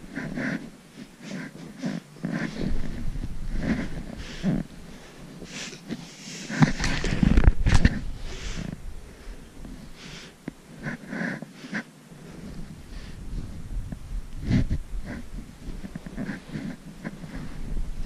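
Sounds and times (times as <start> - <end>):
person breathing hard: 0.0 - 18.0.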